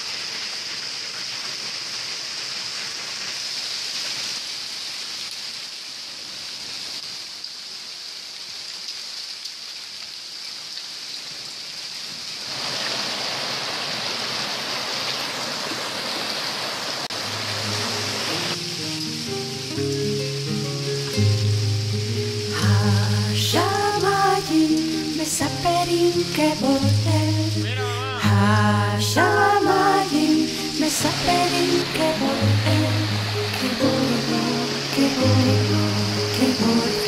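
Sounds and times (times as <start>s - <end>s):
heavy rain hissing: 0.0s - 37.0s
rushing runoff water: 0.0s - 37.0s.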